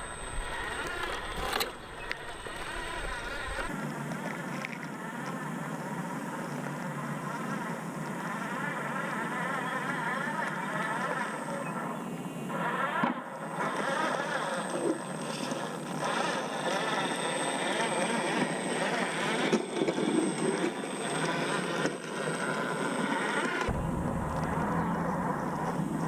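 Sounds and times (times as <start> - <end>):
rc truck electric motor: 0.0 - 23.7.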